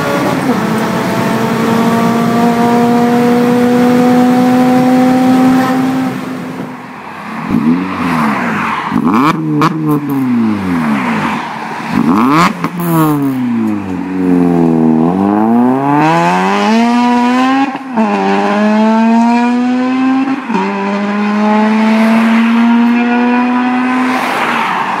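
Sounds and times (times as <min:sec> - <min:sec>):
car engine accelerating hard: 0:00.0 - 0:24.8.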